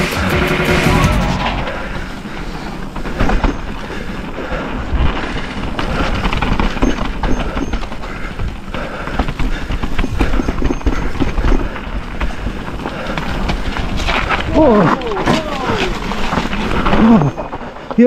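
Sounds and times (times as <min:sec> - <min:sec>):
bike tyres rumbling on trail: 0:01.2 - 0:18.0
bike rattling over bumps: 0:01.6 - 0:18.0.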